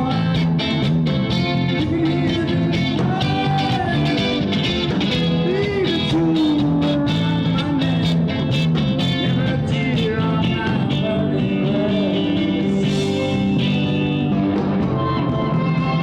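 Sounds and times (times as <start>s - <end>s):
electric guitar: 0.0s - 16.0s
rock band playing live: 0.0s - 16.0s.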